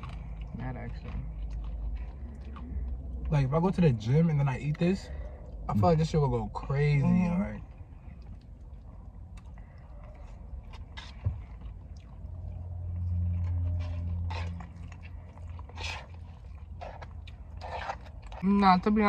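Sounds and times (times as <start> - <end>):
chewing and lip smacks: 0.0 - 6.2, 7.6 - 18.4
low steady hum: 0.0 - 19.0.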